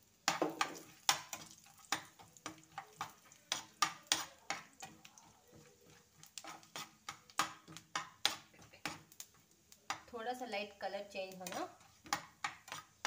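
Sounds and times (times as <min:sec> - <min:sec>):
spatula scraping frying pan: 0:00.0 - 0:10.2, 0:11.3 - 0:13.0
light sizzle: 0:00.0 - 0:13.0.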